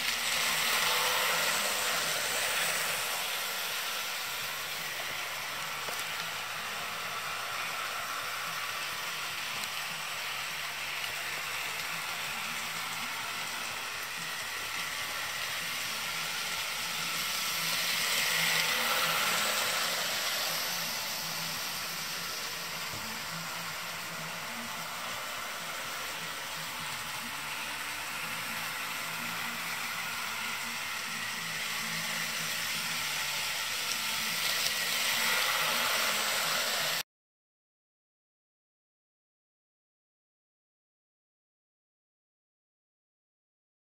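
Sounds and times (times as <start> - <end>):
model train motor whirring: 0.0 - 37.0.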